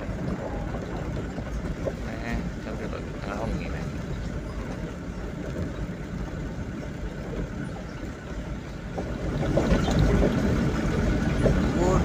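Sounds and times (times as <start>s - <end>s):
road noise on dirt road: 0.0s - 12.0s
vehicle engine rumble: 0.0s - 12.0s.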